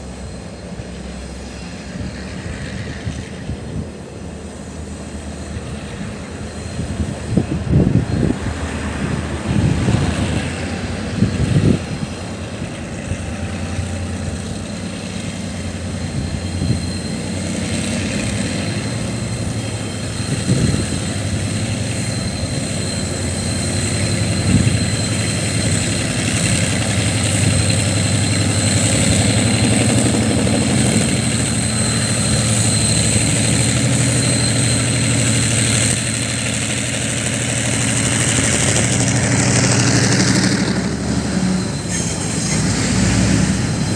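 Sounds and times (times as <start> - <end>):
diesel locomotive engine drone: 0.0 - 43.9
high whine: 0.0 - 43.9.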